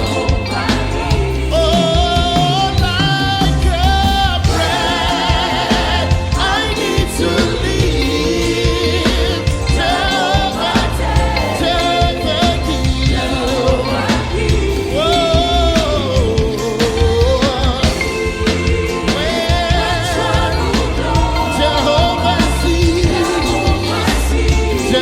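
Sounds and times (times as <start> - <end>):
choir singing gospel: 0.0 - 25.0
heavy bass accompaniment: 0.0 - 25.0
lead voice singing with vibrato: 0.0 - 25.0.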